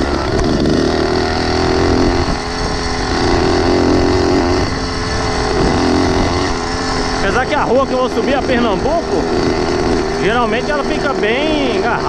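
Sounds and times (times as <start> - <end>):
motorized bicycle engine running: 0.0 - 12.0.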